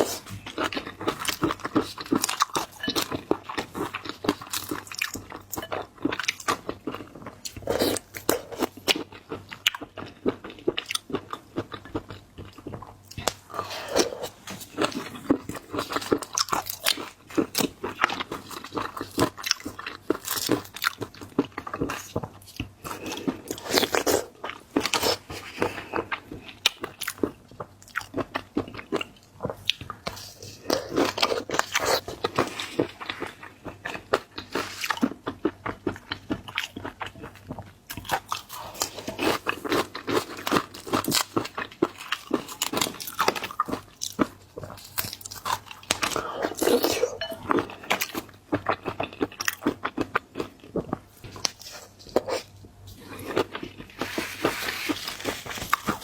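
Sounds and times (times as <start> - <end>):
close-miked crunchy chewing: 0.0 - 56.0.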